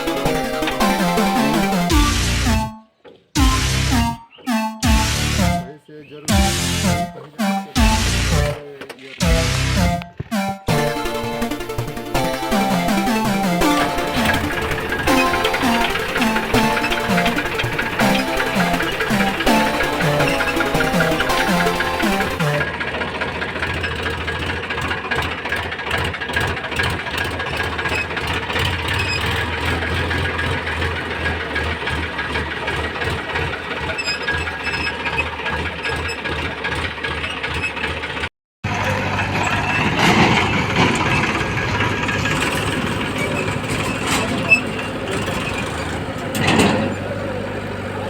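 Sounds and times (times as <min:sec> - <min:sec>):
tractor diesel engine rattling: 0:00.0 - 0:48.0.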